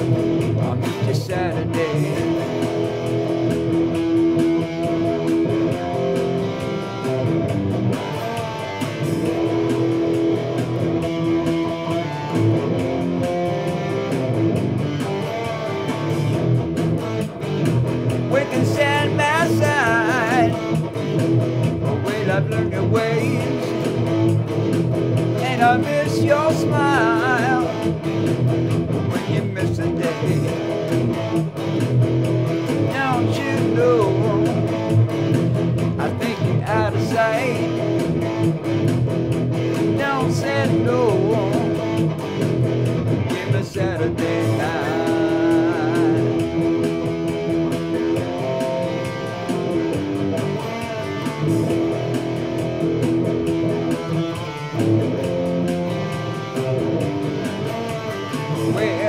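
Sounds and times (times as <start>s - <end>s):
electric guitar playing: 0.0s - 59.0s.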